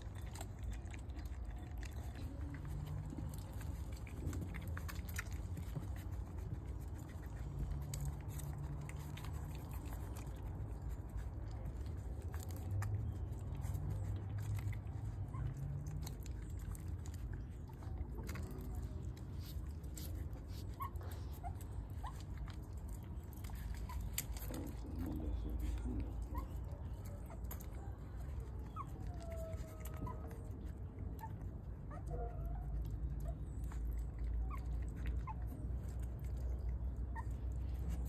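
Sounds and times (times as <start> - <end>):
puppies suckling clicks: 0.0 - 38.0.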